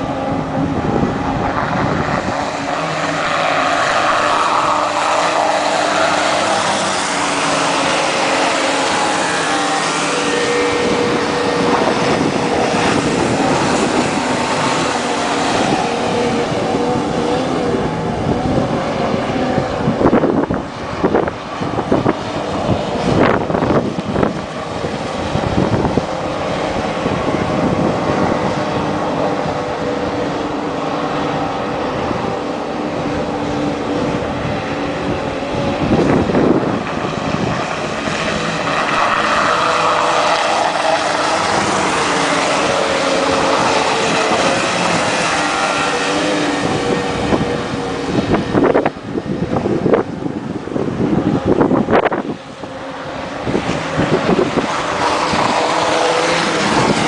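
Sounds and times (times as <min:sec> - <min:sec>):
outboard engines whining: 0:00.0 - 0:57.0
wind buffeting microphone: 0:00.0 - 0:57.0.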